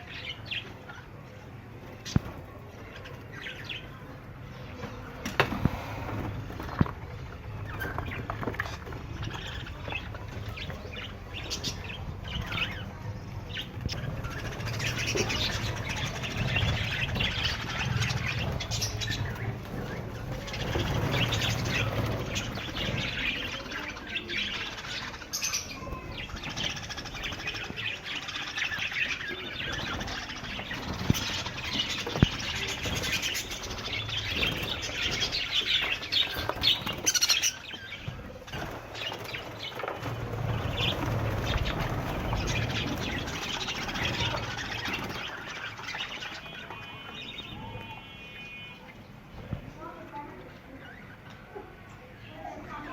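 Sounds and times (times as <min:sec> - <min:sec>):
budgerigars chattering and chirping: 0:05.6 - 0:49.2.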